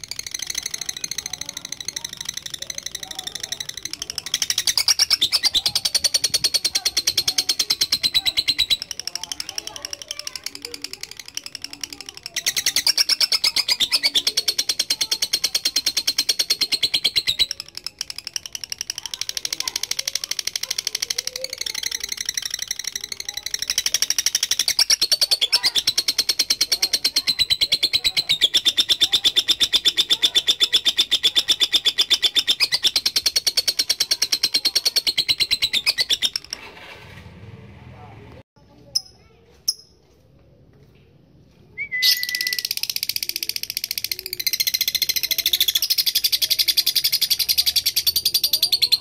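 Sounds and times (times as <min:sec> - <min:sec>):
bird chattering trill: 0:00.0 - 0:36.6, 0:42.0 - 0:49.0.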